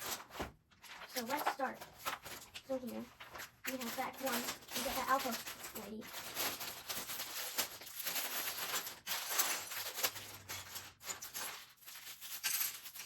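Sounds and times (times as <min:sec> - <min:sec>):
plastic bag crinkling: 0:00.0 - 0:13.0
small clicks and crackles: 0:00.0 - 0:13.0.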